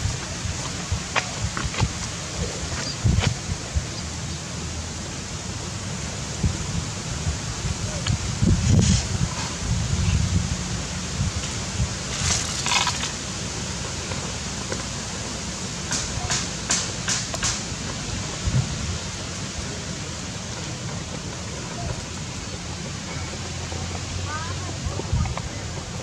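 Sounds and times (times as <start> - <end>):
wind noise on microphone: 0.0 - 14.0, 15.2 - 26.0
rustle: 0.0 - 26.0.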